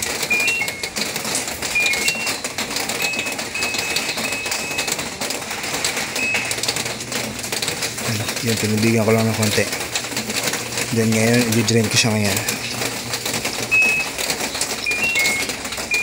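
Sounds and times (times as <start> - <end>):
washing machine panel beeps: 0.0 - 9.6, 11.0 - 16.0.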